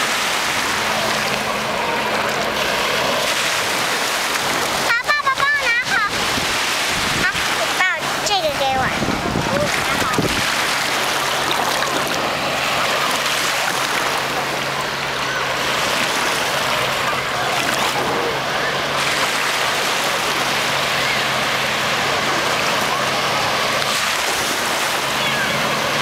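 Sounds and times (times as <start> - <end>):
small waves washing on sand: 0.0 - 26.0.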